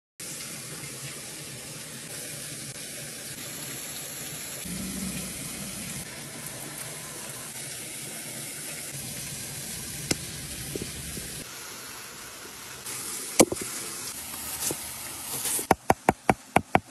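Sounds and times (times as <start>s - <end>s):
small waterfall spilling into pond: 0.2s - 16.9s.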